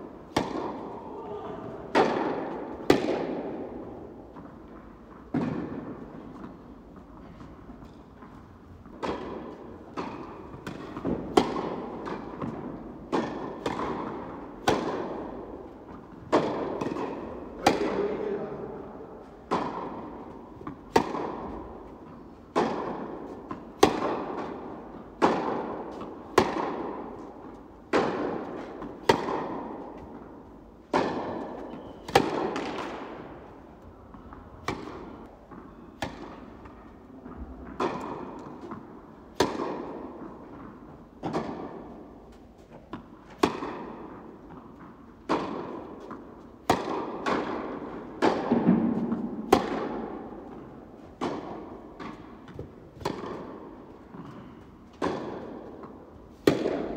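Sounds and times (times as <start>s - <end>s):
tennis balls struck by racquets: 0.0s - 56.9s.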